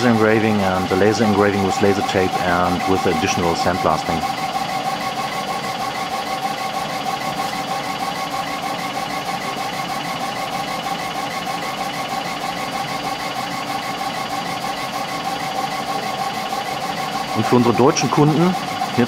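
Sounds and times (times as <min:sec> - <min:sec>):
laser engraver humming and whining: 0:00.0 - 0:19.0.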